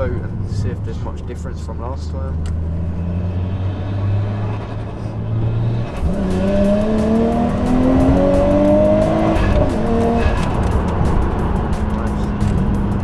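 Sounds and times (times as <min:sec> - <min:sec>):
car engine accelerating hard: 0:02.3 - 0:13.0.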